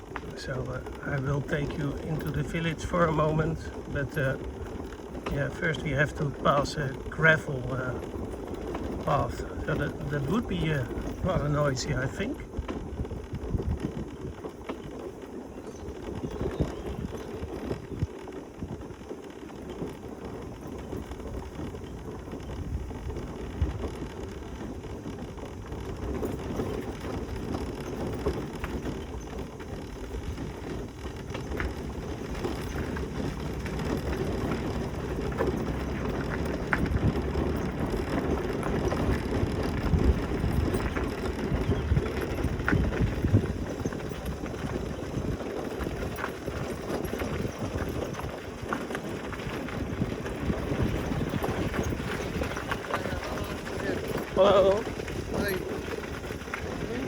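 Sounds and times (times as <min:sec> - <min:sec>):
scooter tyres crunching gravel: 0:00.0 - 0:57.0.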